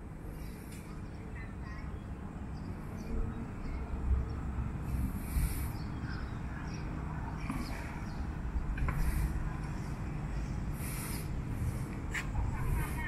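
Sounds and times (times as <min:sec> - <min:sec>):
wind rumble on microphone: 0:00.8 - 0:13.0.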